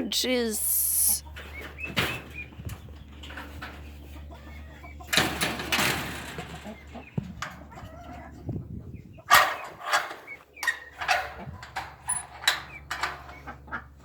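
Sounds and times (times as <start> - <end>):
poultry chirping: 0.1 - 5.7, 6.3 - 14.0.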